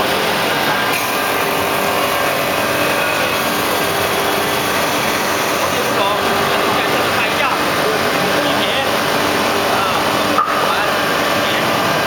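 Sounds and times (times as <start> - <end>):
lathe machining wood: 0.8 - 12.0.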